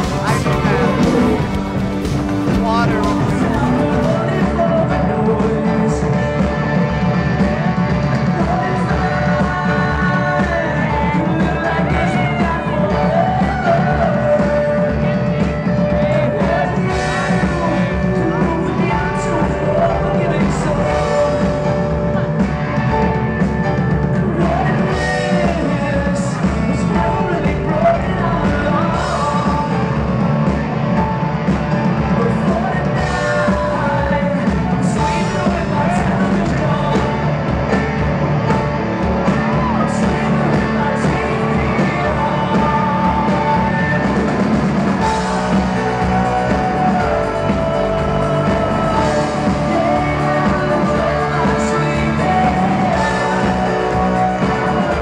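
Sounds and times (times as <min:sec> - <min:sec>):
drums: 0:00.0 - 0:55.0
electric guitar: 0:00.0 - 0:55.0
man singing lead vocals: 0:00.0 - 0:55.0
piano: 0:00.0 - 0:55.0
rock band playing loudly: 0:00.0 - 0:55.0.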